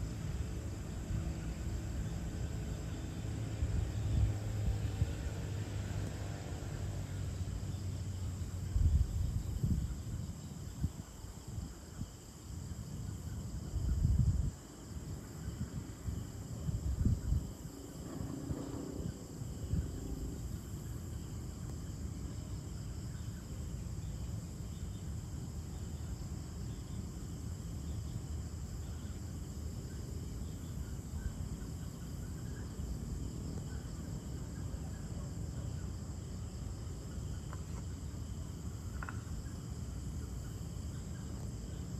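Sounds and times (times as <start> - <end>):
crickets and insects trilling: 0.0 - 41.9.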